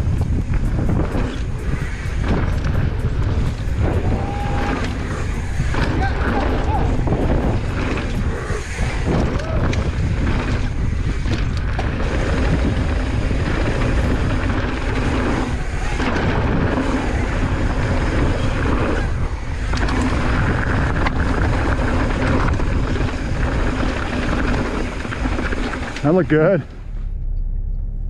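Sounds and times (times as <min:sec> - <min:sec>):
wind buffeting microphone: 0:00.0 - 0:26.7
mountain bike rumbling on trail: 0:00.0 - 0:27.2.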